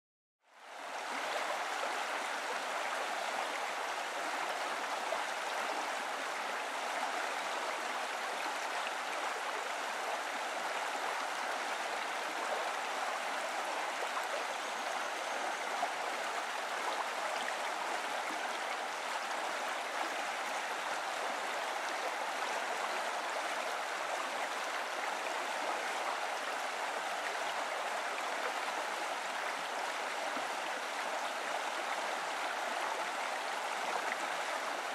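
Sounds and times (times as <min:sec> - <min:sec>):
stream water rushing: 0:00.6 - 0:34.9.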